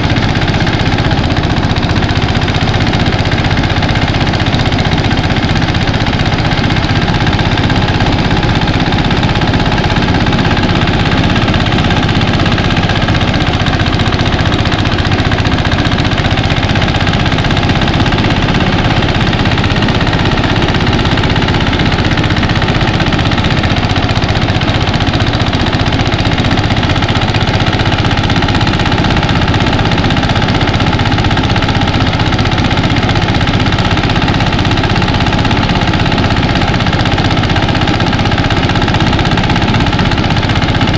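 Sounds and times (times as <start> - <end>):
thresher engine droning: 0.0 - 40.9.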